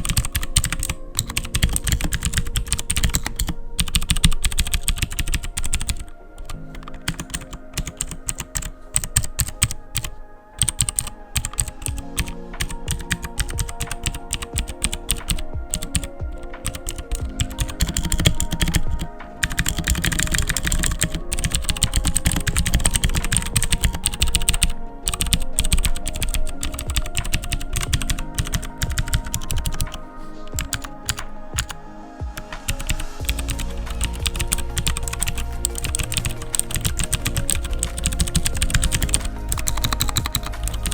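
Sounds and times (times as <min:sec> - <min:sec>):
mechanical keyboard typing: 0:00.0 - 0:31.8, 0:32.4 - 0:40.9
background music: 0:00.0 - 0:40.9.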